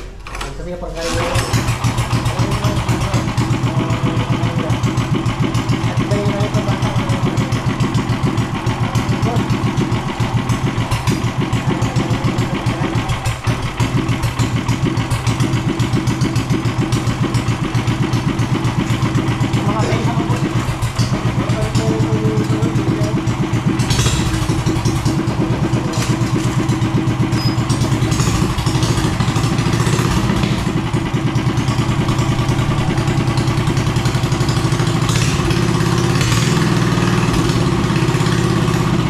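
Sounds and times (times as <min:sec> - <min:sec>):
small engine chugging: 0:00.9 - 0:39.0.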